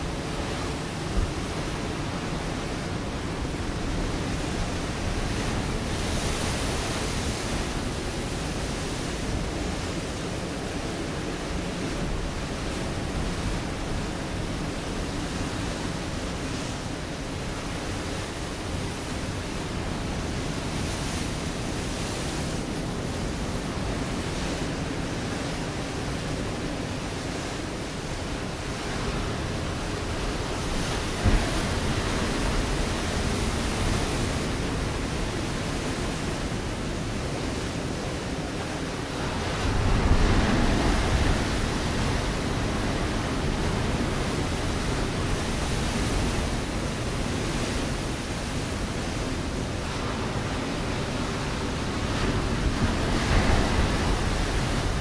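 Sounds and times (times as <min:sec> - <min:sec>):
surf washing on rocks: 0:00.0 - 0:55.0.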